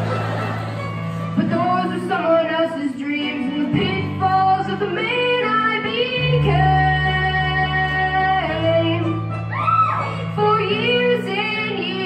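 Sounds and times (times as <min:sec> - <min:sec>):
instrumental accompaniment: 0:00.0 - 0:12.0
boy singing into a microphone: 0:01.4 - 0:09.2, 0:10.0 - 0:12.0.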